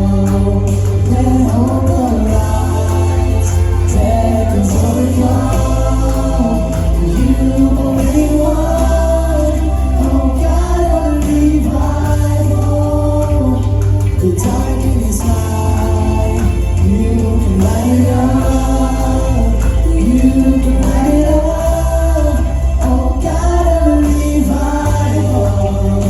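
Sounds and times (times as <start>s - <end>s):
band with heavy bass: 0.0s - 26.0s
group of singers: 0.0s - 26.0s.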